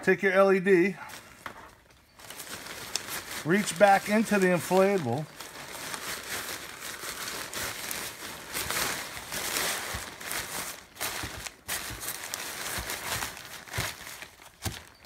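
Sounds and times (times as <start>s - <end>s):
inflatable fabric rustling: 2.2s - 15.0s.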